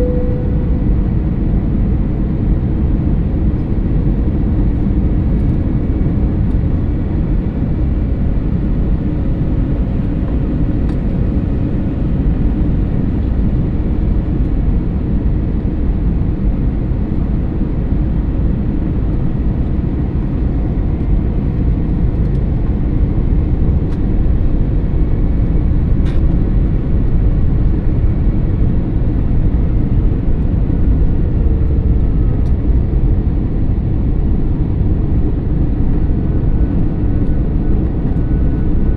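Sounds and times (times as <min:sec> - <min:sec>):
airliner engine rumble: 0:00.0 - 0:38.9.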